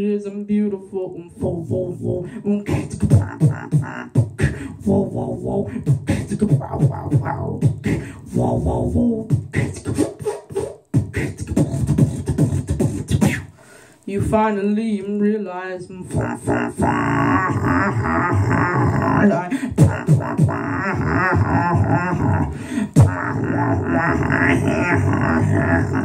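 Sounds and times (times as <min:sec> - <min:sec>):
beatboxing into microphone: 0:00.0 - 0:14.6, 0:15.9 - 0:26.0.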